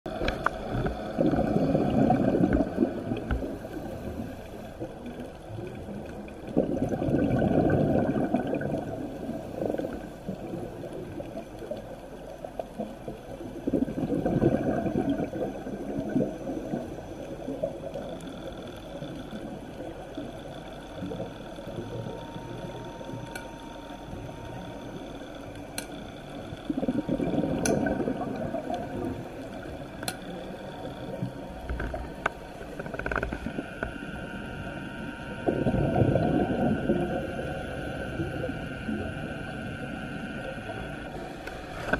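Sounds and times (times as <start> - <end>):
underwater breath bubbles gurgling: 0.1 - 41.9.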